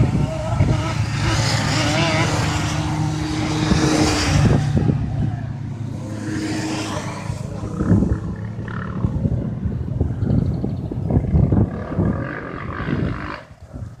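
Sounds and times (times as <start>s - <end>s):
motorcycle engines revving: 0.0s - 13.9s.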